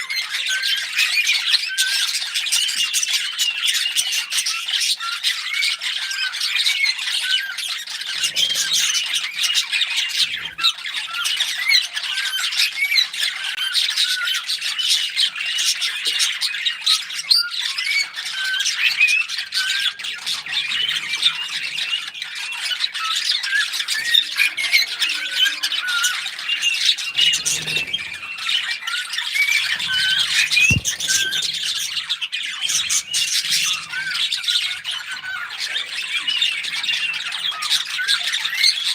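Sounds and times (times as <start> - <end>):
small birds chirping and warbling: 0.0 - 38.9.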